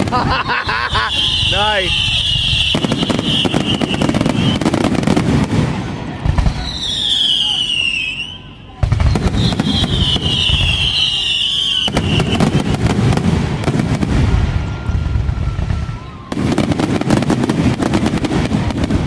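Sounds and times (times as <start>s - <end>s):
high firework whistle: 0.0s - 5.3s, 6.3s - 18.2s
fireworks crackling and banging: 0.0s - 19.0s.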